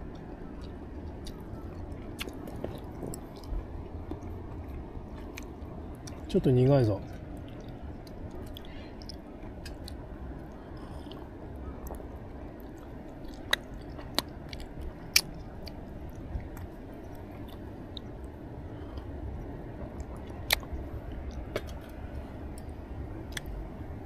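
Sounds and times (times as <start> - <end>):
person chewing food: 0.0 - 6.3, 7.1 - 23.6.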